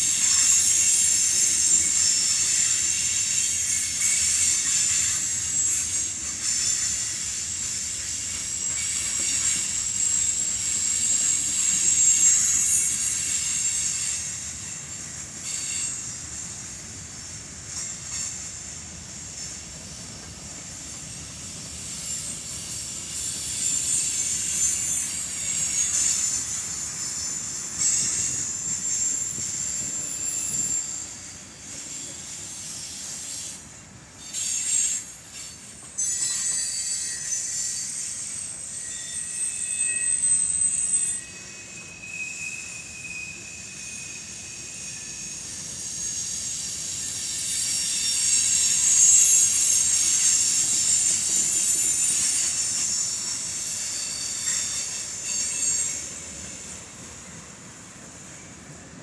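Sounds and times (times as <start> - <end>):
high wheel squeal: 0.0 - 59.0.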